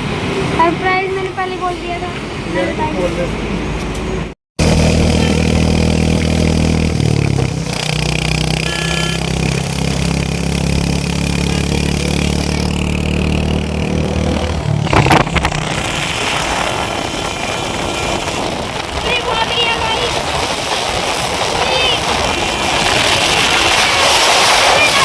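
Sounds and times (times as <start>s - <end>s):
motorcycle engine running: 4.6s - 25.0s.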